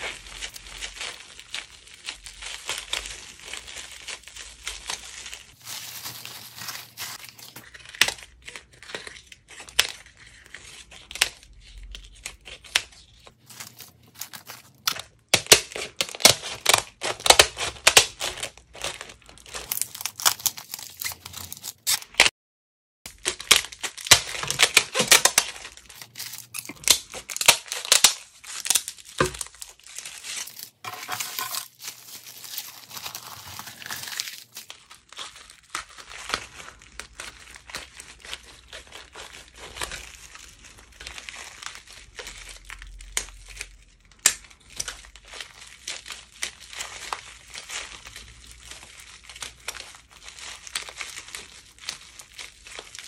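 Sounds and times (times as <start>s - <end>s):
scissors cutting crinkly slime: 0.0s - 22.3s, 23.1s - 53.0s.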